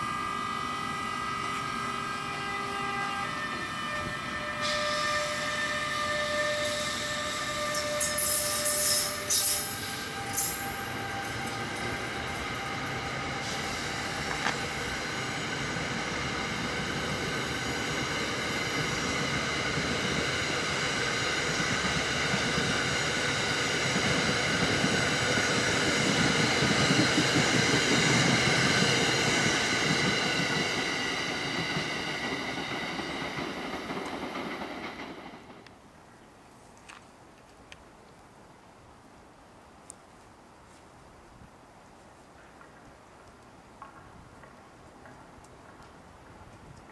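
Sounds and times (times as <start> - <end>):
train wheels rumbling on rail: 0.0 - 36.0, 42.4 - 46.9.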